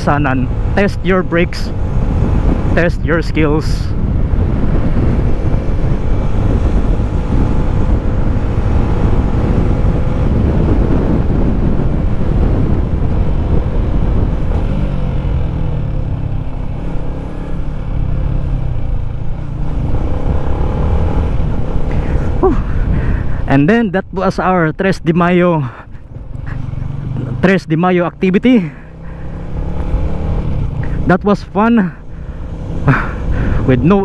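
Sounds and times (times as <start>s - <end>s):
motorcycle engine running: 0.0s - 34.0s
wind rumble on microphone: 0.0s - 34.0s.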